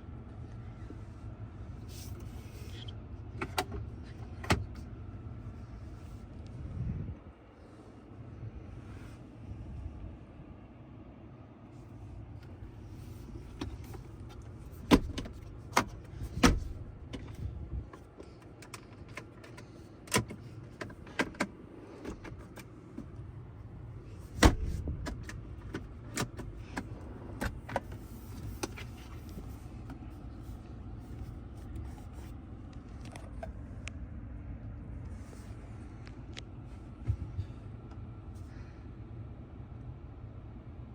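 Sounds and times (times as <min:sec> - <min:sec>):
low rumble inside truck cab: 0:00.0 - 0:40.9.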